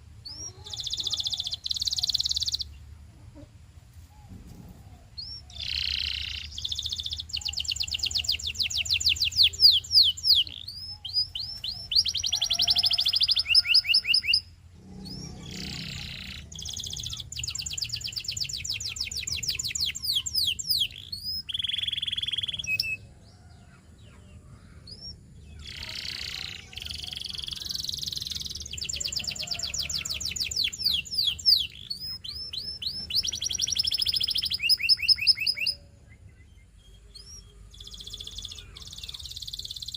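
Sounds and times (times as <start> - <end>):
canary singing fast trills: 0.0 - 2.9, 5.0 - 39.9.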